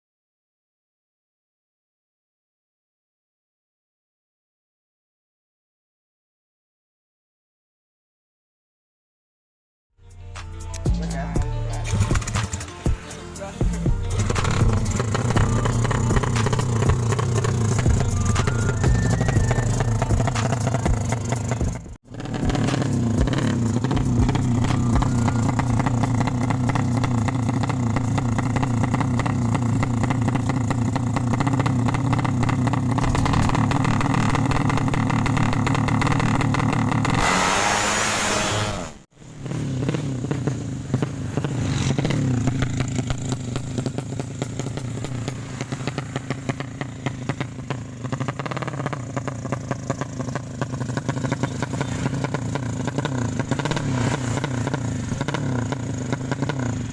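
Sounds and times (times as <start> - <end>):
motorcycle engine running: 10.0 - 56.9.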